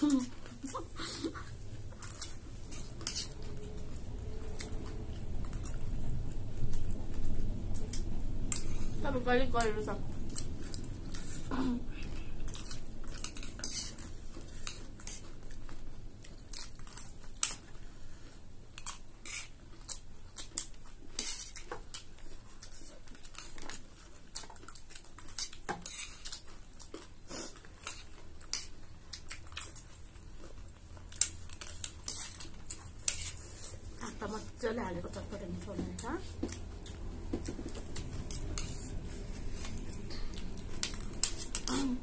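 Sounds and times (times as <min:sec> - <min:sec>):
chewing food: 0:00.0 - 0:42.0.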